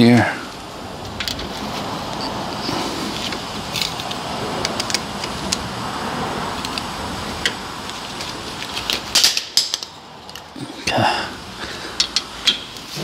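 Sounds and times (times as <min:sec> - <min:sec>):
steady rushing background noise: 0:00.0 - 0:13.0.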